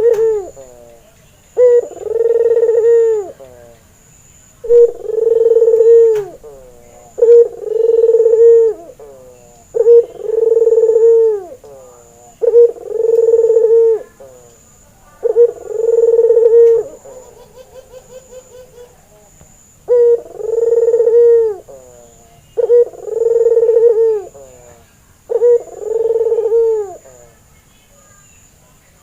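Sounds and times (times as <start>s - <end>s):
dove cooing: 0.0s - 3.8s, 4.6s - 27.4s.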